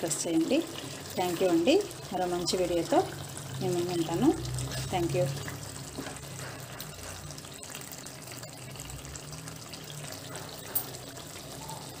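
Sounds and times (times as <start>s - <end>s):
curry bubbling and sizzling: 0.0s - 12.0s.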